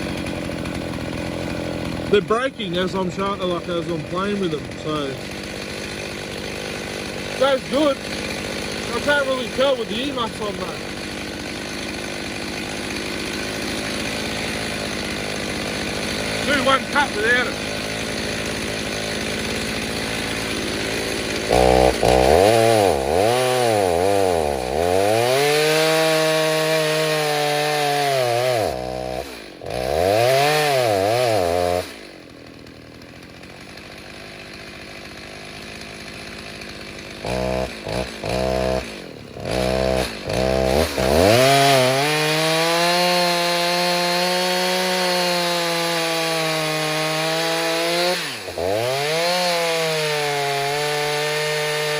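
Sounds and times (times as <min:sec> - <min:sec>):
chainsaw revving and cutting: 0:00.0 - 0:51.9.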